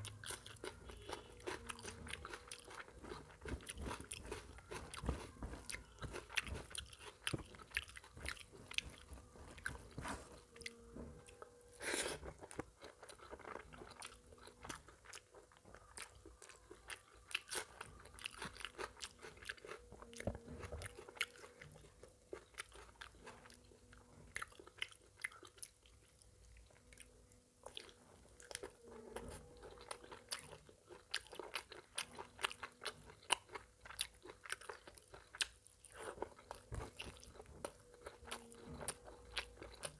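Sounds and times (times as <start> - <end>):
person chewing and smacking: 0.0 - 39.9.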